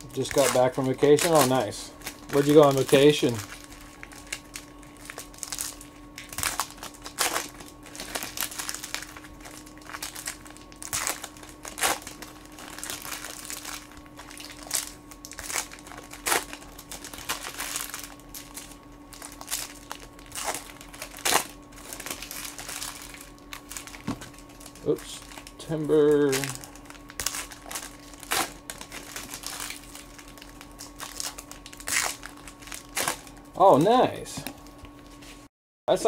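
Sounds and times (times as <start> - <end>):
foil wrappers tearing and crinkling: 0.0 - 33.6
faint steady hum: 0.0 - 36.0.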